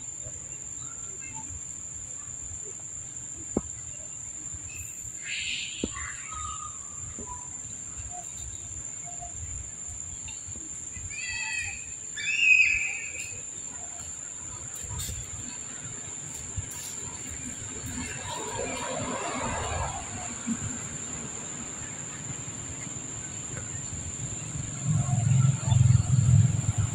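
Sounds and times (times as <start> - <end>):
high insect drone: 0.0 - 26.9.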